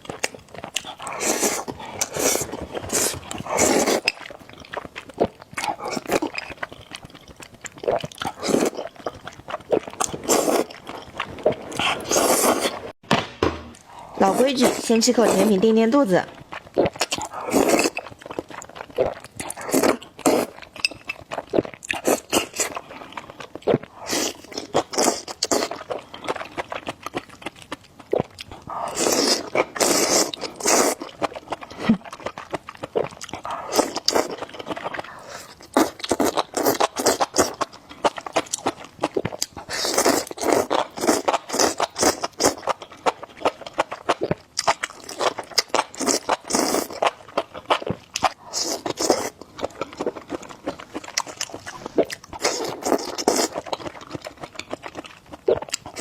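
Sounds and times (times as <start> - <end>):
chewing and crunching: 0.0 - 13.0, 14.3 - 56.0.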